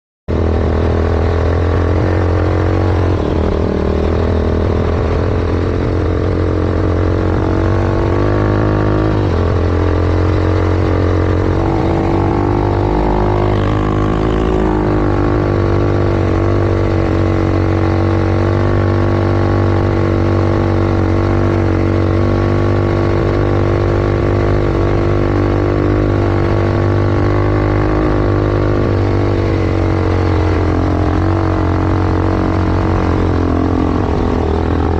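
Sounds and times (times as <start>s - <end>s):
quad bike engine running: 0.3s - 34.9s.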